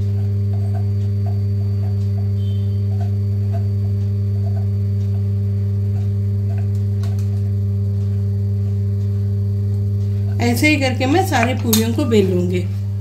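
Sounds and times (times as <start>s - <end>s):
loud electrical hum: 0.0s - 13.0s.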